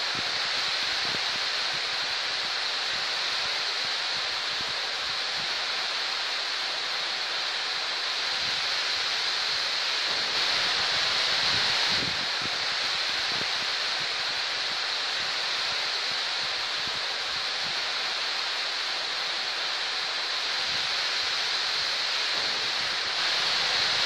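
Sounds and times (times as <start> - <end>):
heavy rain on trees and grass: 0.0 - 24.0.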